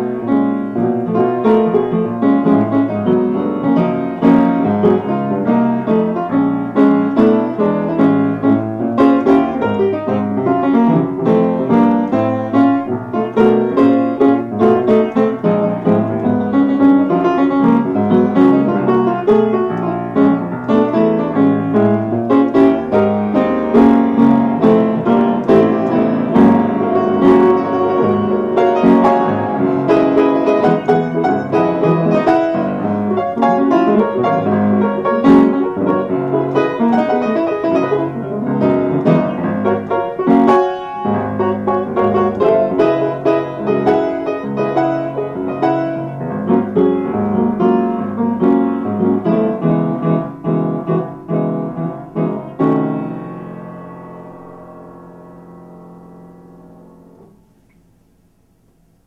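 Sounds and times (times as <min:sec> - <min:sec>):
jazz piano music: 0:00.0 - 0:59.0.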